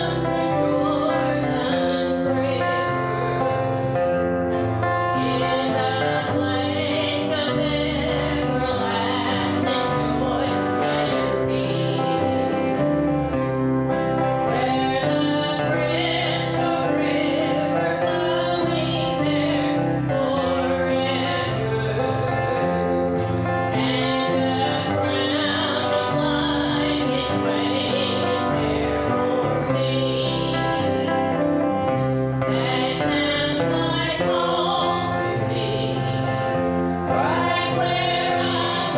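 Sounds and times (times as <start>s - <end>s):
instrumental accompaniment: 0.0s - 38.9s
voices singing gospel in harmony: 0.0s - 38.9s.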